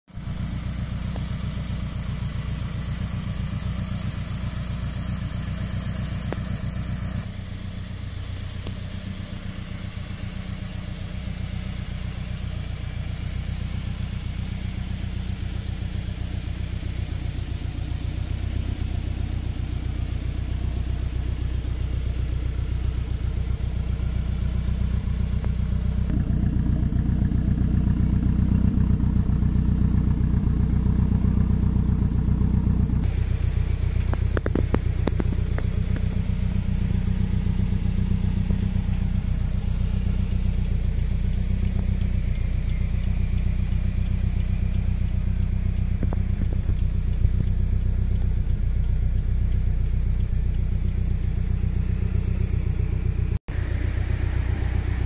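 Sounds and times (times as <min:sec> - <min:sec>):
car engine idling: 0:00.1 - 0:55.0.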